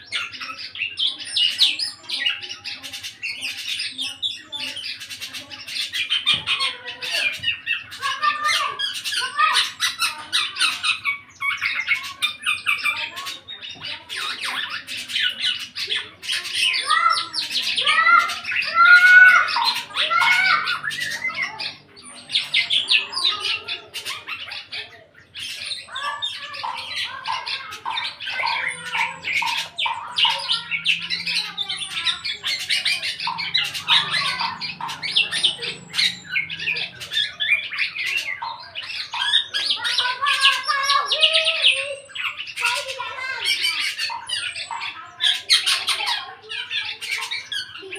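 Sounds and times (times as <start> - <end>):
oriole singing rapid whistled notes: 0.0 - 47.9.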